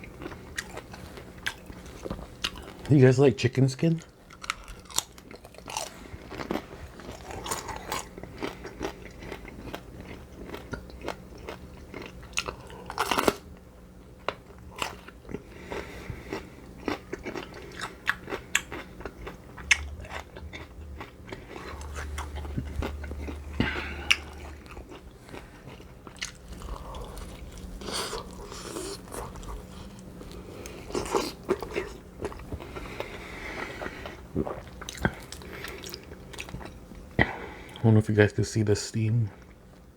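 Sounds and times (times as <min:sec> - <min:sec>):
chewing crispy chicken skin: 0:00.0 - 0:37.9.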